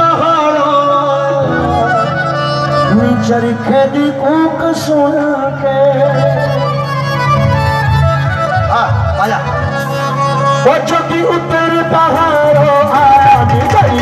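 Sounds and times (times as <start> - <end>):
reedy keyboard melody: 0.0 - 14.0.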